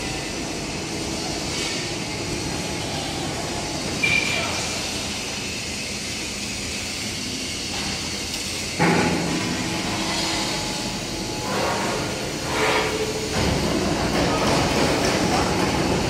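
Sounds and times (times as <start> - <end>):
mechanical rumble and hiss: 0.0 - 16.0.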